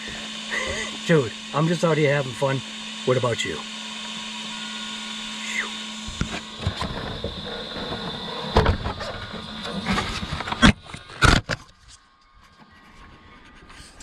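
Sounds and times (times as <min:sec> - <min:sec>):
electric motor whining: 0:00.0 - 0:11.6.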